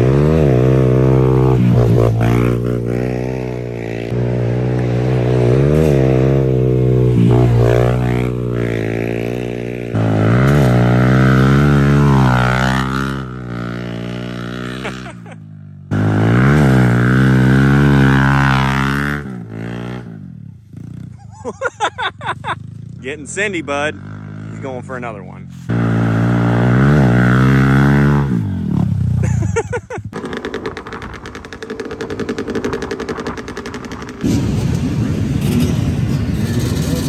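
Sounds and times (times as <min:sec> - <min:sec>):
dirt bike engine revving: 0:00.0 - 0:21.5, 0:22.3 - 0:34.4.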